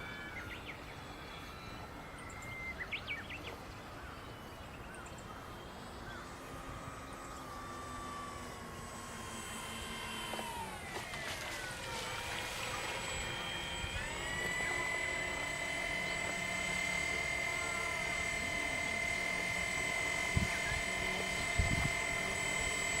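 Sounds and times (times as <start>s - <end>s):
electric motors and propellers whining: 0.0s - 23.0s.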